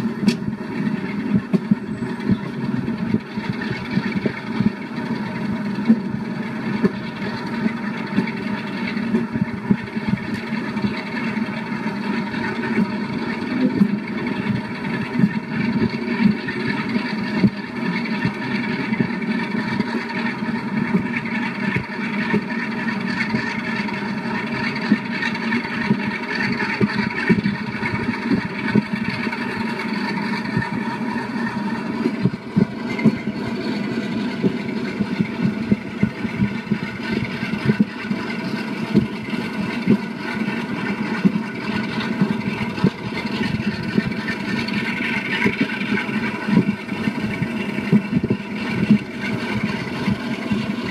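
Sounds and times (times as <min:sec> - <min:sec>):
diesel locomotive engine drone: 0:00.0 - 0:50.9
track noise: 0:00.0 - 0:50.9.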